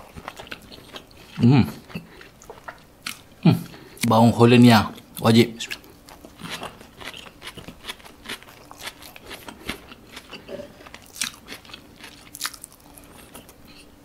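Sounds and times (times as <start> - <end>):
close chewing crunches: 0.0 - 3.8, 4.9 - 13.9.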